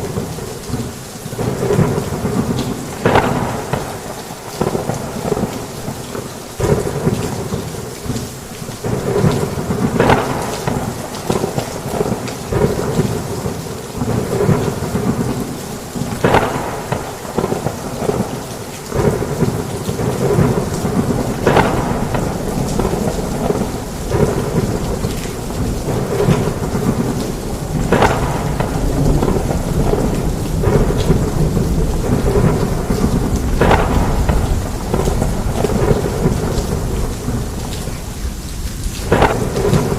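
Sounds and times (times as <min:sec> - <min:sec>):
heavy rain falling: 0:00.0 - 0:39.9
low rolling thunder: 0:00.0 - 0:39.9.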